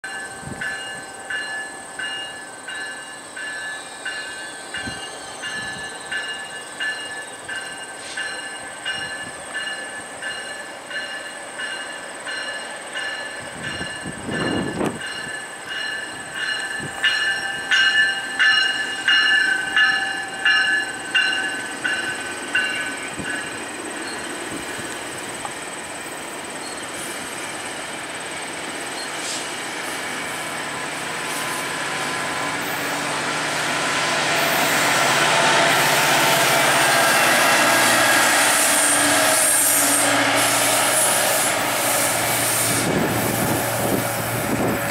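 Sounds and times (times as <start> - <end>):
train bell ringing: 0.0 - 40.2
commuter train passing: 0.0 - 44.9.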